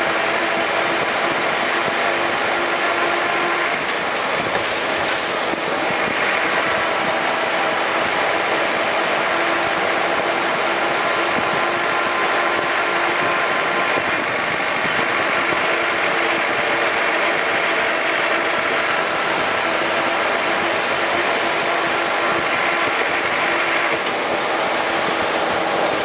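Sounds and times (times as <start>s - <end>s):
road and drivetrain noise: 0.0s - 26.0s.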